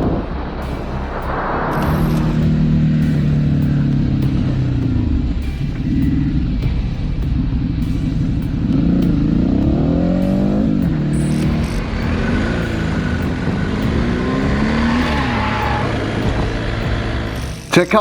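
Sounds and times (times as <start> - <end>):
steady low drone: 0.0 - 18.0
vehicle engine accelerating: 0.0 - 18.0.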